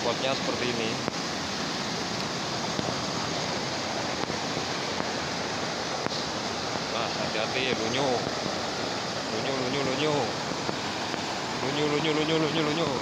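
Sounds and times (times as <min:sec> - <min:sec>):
river water rushing over a weir: 0:00.0 - 0:13.0.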